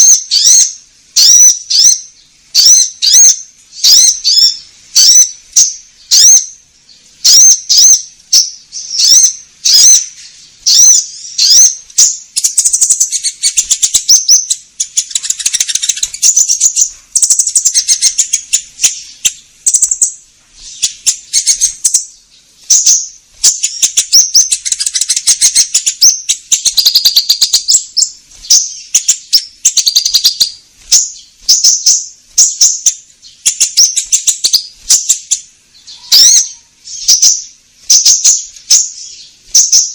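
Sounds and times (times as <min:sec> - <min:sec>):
songbird chirps and buzzy trills: 0:00.0 - 0:39.9.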